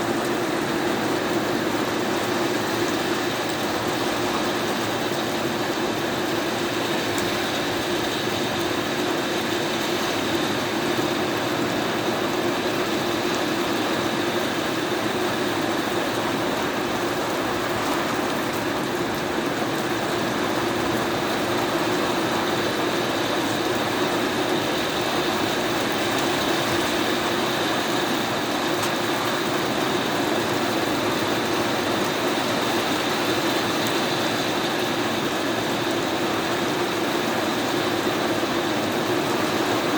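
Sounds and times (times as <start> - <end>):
heavy rain on a house: 0.0 - 39.9.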